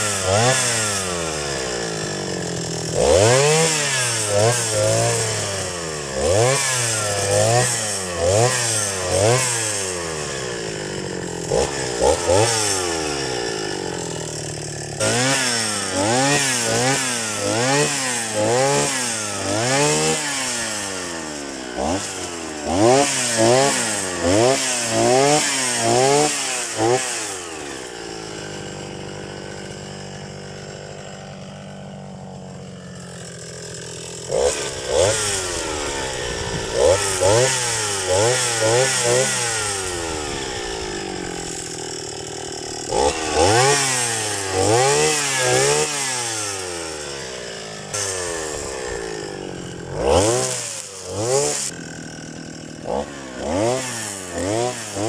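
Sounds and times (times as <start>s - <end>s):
grass trimmer engine revving: 0.0s - 55.0s.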